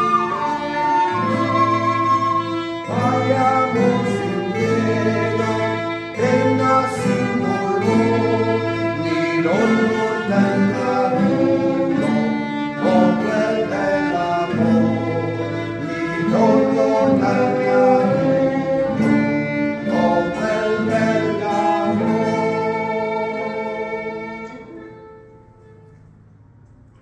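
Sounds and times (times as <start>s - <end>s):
violin and guitar melody: 0.0s - 26.4s.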